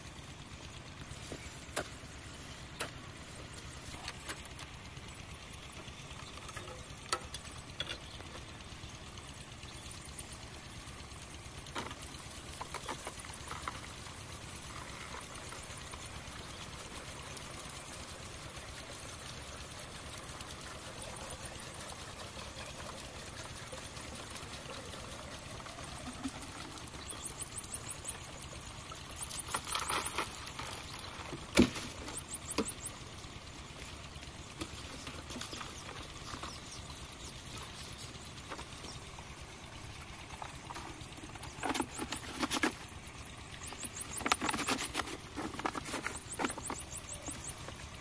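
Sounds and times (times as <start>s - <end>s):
water trickling into a pipe: 0.0s - 48.0s.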